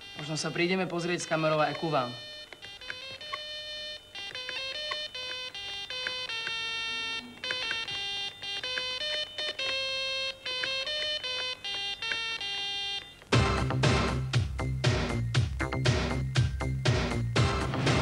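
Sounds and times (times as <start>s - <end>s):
electronic organ beeping tune: 0.0s - 18.0s.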